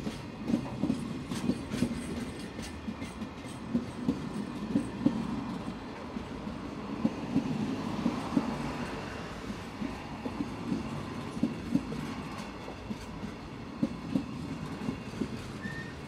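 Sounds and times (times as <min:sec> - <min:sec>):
train rolling rumble: 0:00.0 - 0:16.0
train wheels clattering on rails: 0:00.0 - 0:16.0.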